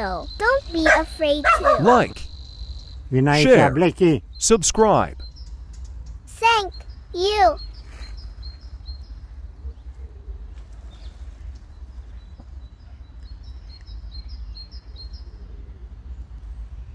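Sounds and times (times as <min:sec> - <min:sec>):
small bird high chirping: 0:00.0 - 0:09.8, 0:10.9 - 0:15.6.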